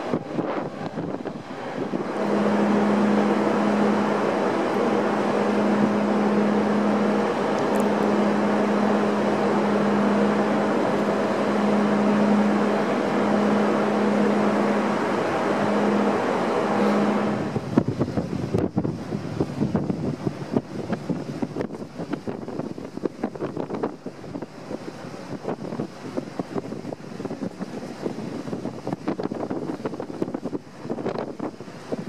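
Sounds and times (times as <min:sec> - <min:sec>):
ship engines droning: 0:00.0 - 0:32.0
wind on microphone: 0:00.0 - 0:32.0.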